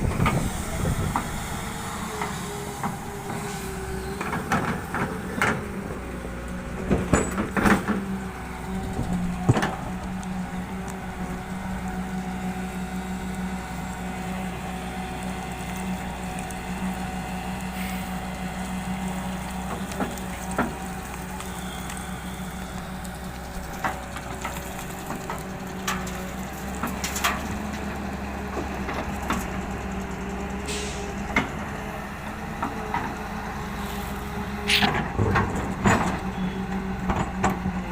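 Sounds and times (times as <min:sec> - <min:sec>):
diesel excavator engine running: 0:00.0 - 0:37.9.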